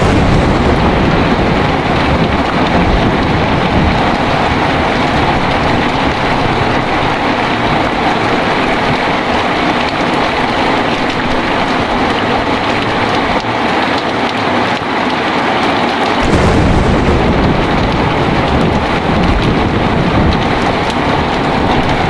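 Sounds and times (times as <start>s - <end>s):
low thunder rumble: 0.0s - 13.4s, 16.2s - 22.0s
heavy rain pouring: 0.0s - 22.0s.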